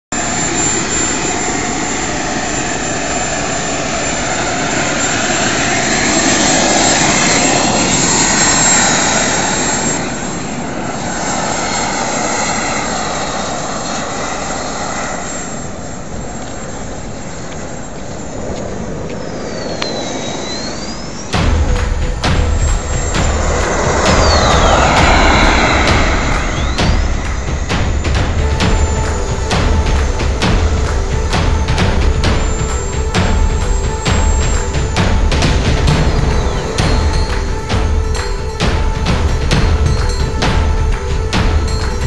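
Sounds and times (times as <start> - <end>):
model jet engine hiss and whine: 0.0 - 42.0.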